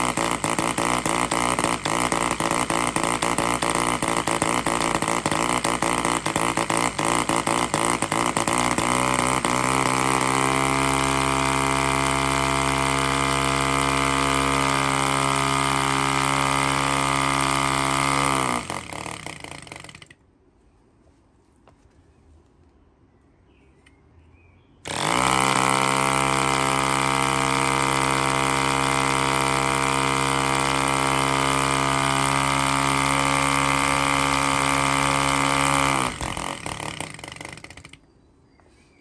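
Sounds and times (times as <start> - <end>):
model engine running: 0.0 - 20.1, 24.8 - 38.0.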